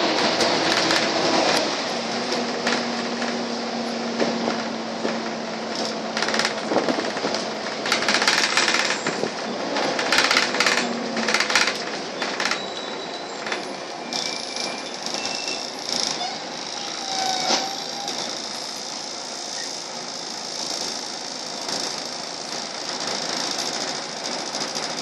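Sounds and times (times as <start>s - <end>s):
bus engine and road drone: 0.0s - 25.0s.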